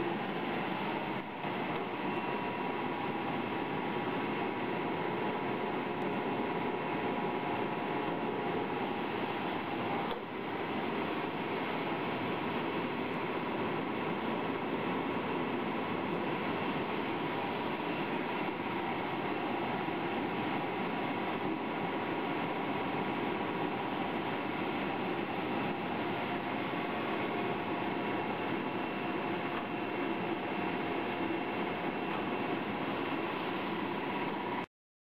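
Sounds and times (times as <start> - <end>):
washing machine humming: 0.0 - 34.7.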